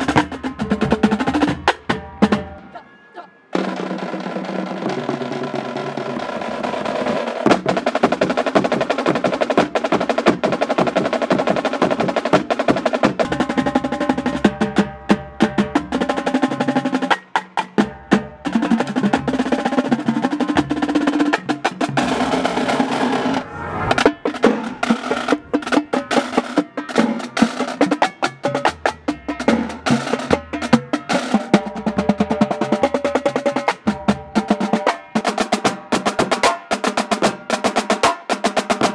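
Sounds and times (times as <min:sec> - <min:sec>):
marching drumline playing: 0:00.0 - 0:02.8, 0:03.5 - 0:38.9.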